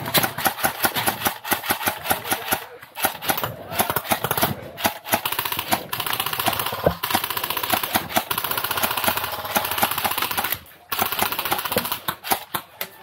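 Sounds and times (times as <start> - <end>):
airsoft gun firing full auto: 0.0 - 12.6.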